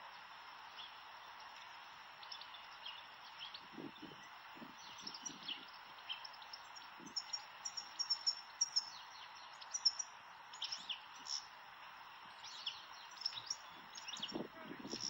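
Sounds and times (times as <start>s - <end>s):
birds twittering: 0.0s - 15.0s
outdoor background hiss: 0.0s - 15.0s.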